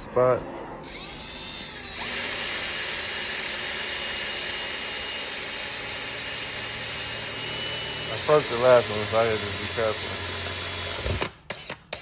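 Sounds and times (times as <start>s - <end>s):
electric drill whining: 0.8s - 12.0s.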